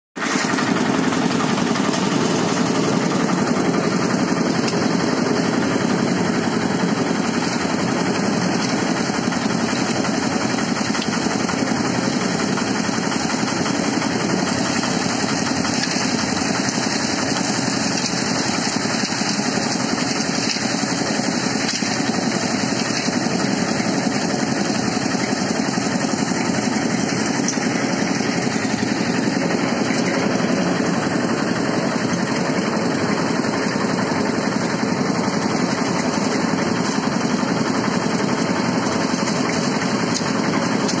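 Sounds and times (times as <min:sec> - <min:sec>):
concrete mixer engine running: 0:00.2 - 0:41.0.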